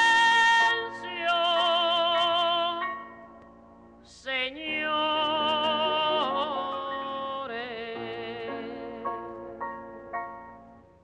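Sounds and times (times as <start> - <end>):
slow melody with vibrato: 0.0 - 11.0.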